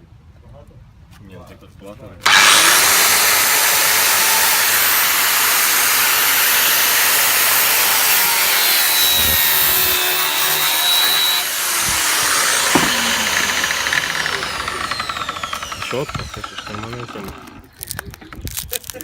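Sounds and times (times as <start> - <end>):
angle grinder cutting metal: 2.2 - 18.0.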